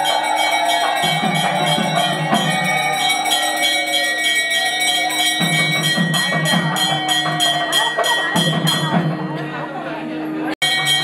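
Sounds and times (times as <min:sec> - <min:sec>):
temple bells ringing: 0:00.0 - 0:11.0.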